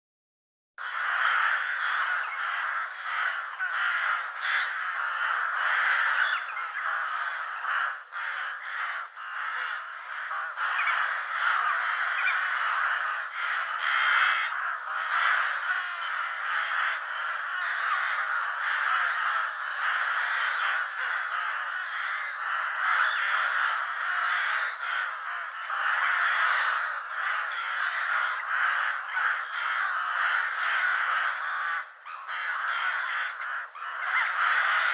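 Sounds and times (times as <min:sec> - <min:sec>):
crows cawing: 0:00.8 - 0:34.9.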